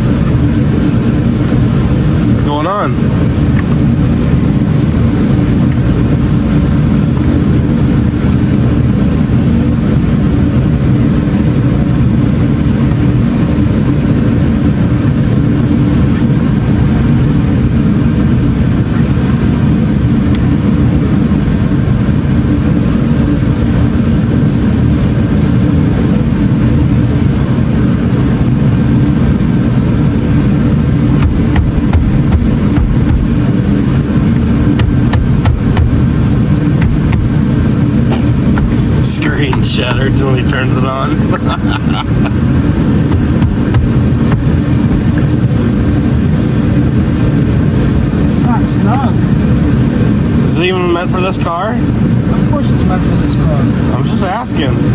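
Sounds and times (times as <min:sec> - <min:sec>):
car engine running: 0:00.0 - 0:54.9.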